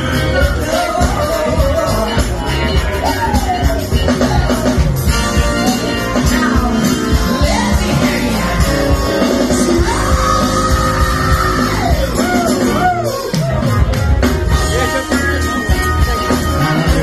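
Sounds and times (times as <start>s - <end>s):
person singing: 0.0s - 13.9s, 14.5s - 17.0s
live band music: 0.0s - 17.0s.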